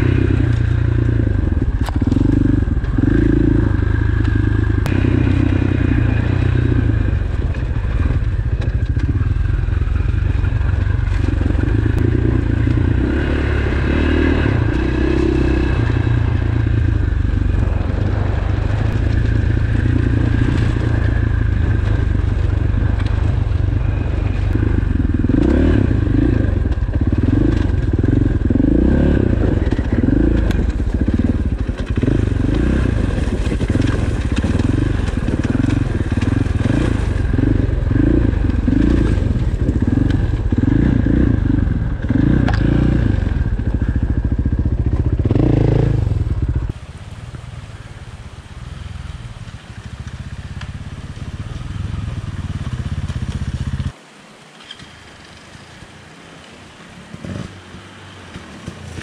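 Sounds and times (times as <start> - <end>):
dirt bike engine running: 0.0 - 54.0
gravel crunching under tyres: 0.0 - 59.0.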